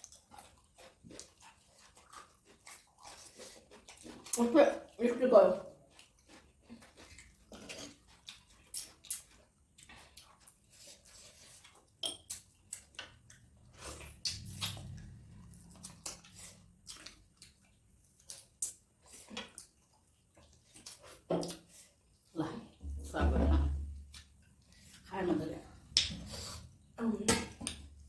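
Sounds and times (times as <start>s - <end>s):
chewing: 0.0s - 22.8s.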